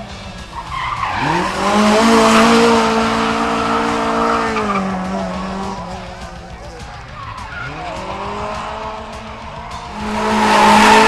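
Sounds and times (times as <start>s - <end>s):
race car engine revving: 0.0s - 11.0s
tyres squealing and skidding: 0.0s - 11.0s.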